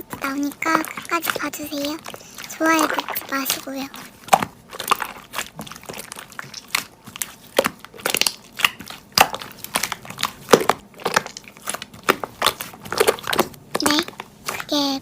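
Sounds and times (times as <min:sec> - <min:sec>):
slime crackling and popping: 0:00.0 - 0:14.9.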